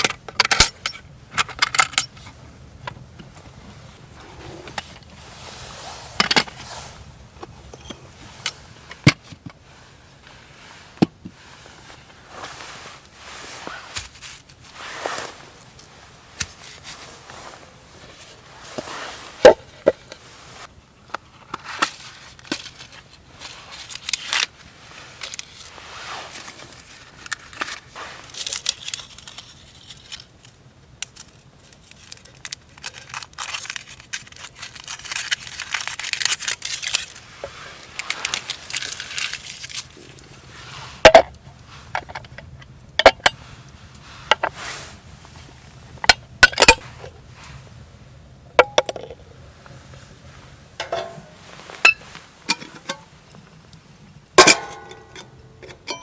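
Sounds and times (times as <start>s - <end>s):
rustling and crinkling handling: 1.4s - 56.0s.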